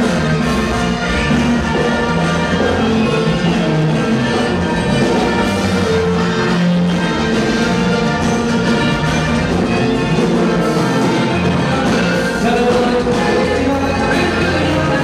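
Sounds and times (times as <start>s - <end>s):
live dance band with brass: 0.0s - 15.0s.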